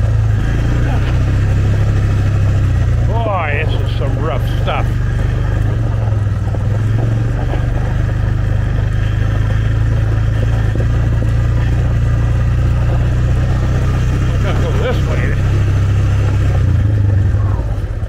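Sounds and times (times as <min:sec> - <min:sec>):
quad engine droning: 0:00.0 - 0:18.0.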